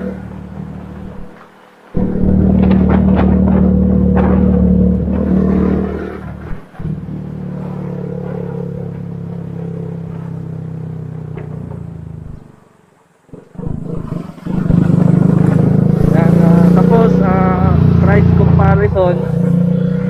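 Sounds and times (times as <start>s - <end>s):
motorcycle engine running: 0.0s - 1.4s, 2.0s - 12.6s, 13.4s - 20.0s.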